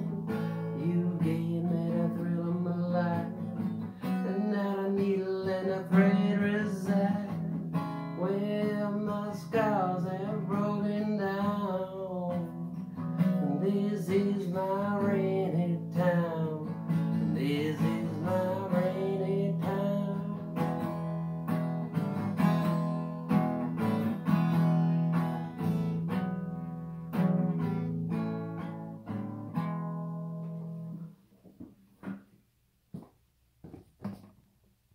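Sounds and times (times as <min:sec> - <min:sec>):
acoustic guitar playing: 0:00.0 - 0:31.3.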